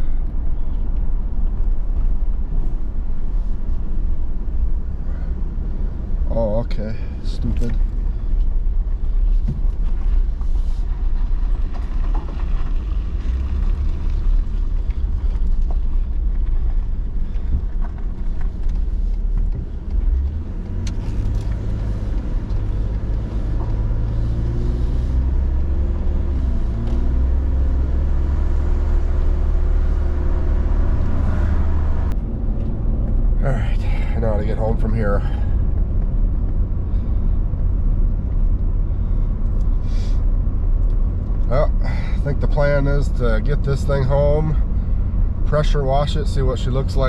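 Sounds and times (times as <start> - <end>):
truck engine rumble: 0.0 - 47.0.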